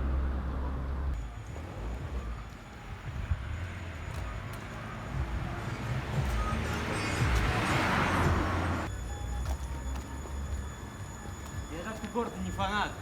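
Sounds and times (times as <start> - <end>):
traffic noise: 0.0 - 13.0
vehicle engine rumble: 0.0 - 13.0.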